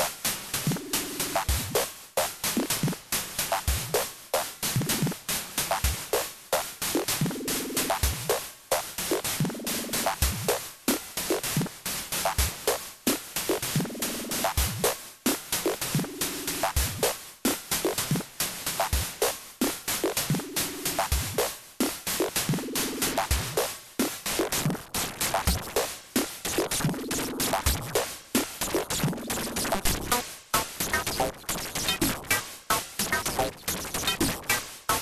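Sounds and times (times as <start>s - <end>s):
drum machine beat: 0.0s - 35.0s.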